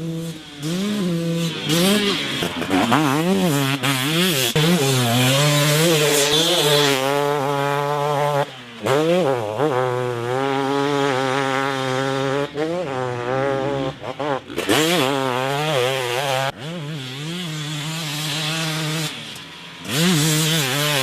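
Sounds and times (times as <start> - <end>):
motocross engine revving: 0.0 - 21.0.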